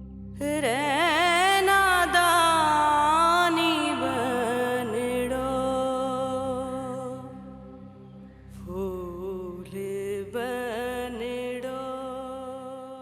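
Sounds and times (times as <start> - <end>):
slow wordless sung melody: 0.0 - 13.0.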